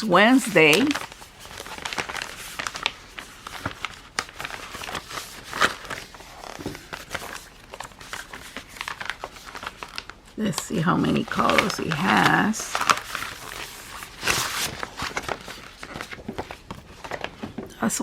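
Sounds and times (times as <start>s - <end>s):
plastic and paper rustling: 0.0s - 18.0s.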